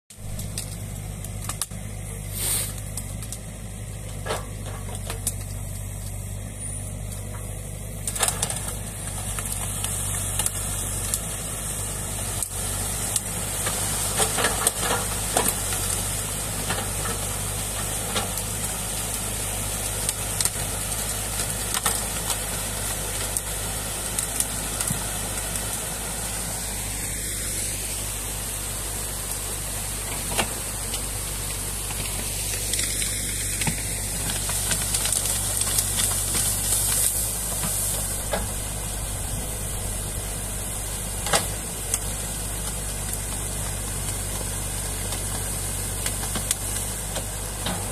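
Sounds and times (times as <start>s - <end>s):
excavator diesel engine running: 0.1s - 47.9s.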